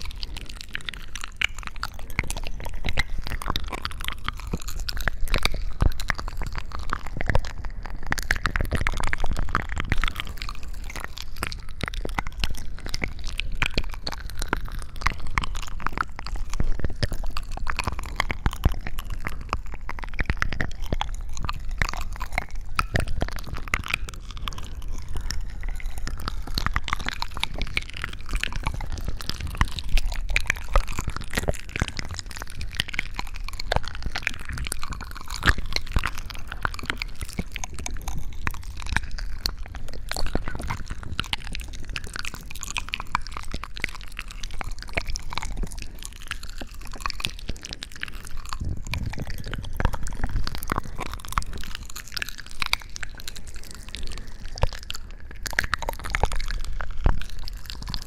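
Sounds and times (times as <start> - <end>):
crunching and crackling clicks: 0.0 - 58.0
wet squishing: 0.0 - 58.0.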